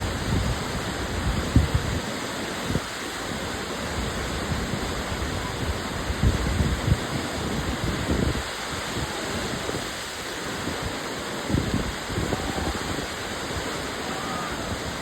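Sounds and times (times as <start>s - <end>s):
wind buffeting microphone: 0.0s - 3.0s, 3.8s - 15.0s
whitewater rushing: 0.0s - 15.0s.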